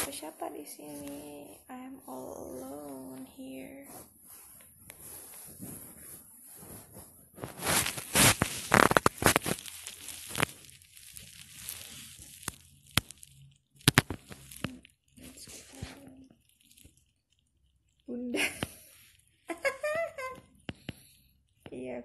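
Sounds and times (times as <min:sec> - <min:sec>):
rustling and crackling handling noise: 0:00.0 - 0:21.8.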